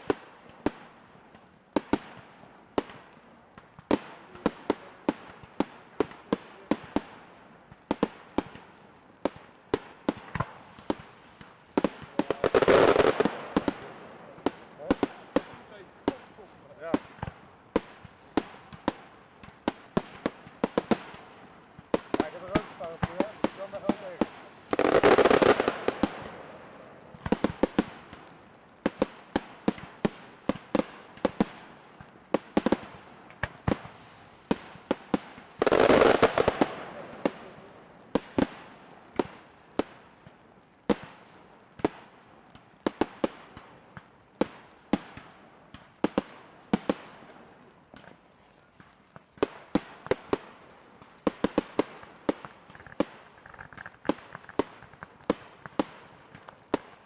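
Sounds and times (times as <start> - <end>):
fireworks bursting bangs: 0.0 - 57.0.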